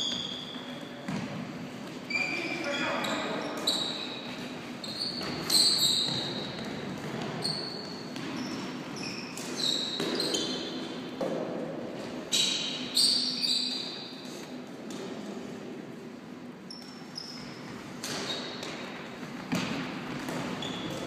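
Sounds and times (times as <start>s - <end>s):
sneakers squeaking on court floor: 0.0s - 11.4s, 12.1s - 14.6s, 16.7s - 21.0s.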